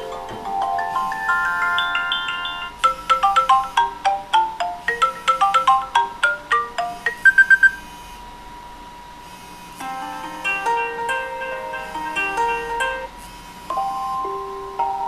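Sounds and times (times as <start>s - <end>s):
phone ringtone chime notes: 0.0s - 7.9s, 9.9s - 13.1s, 13.7s - 15.0s.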